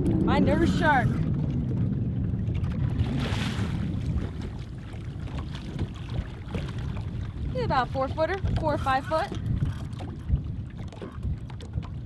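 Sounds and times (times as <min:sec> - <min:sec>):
water moving around hull: 0:00.0 - 0:12.0
wind buffeting microphone: 0:00.0 - 0:12.0.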